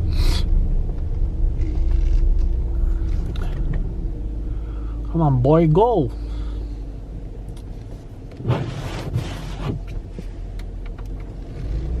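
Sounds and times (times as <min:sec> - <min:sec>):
engine running low: 0:00.0 - 0:12.0.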